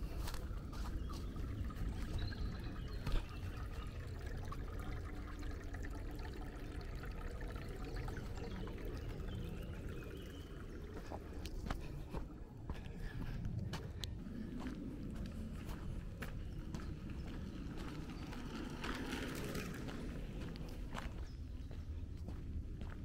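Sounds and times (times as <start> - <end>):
water trickling: 0.0 - 12.6, 14.4 - 23.0.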